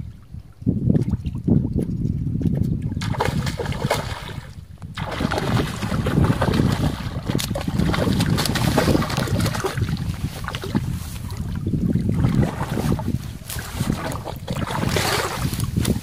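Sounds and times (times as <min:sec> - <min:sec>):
wind rumble on microphone: 0:00.0 - 0:16.0
fish splashing in water: 0:03.0 - 0:16.0.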